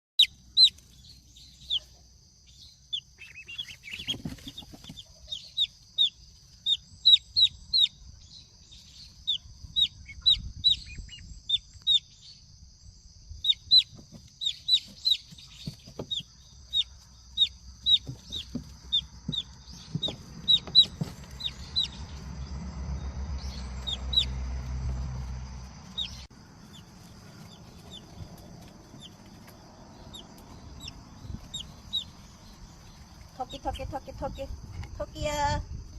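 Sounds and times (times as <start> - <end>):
chicks peeping: 0.2 - 12.5, 13.4 - 22.6, 23.2 - 35.6.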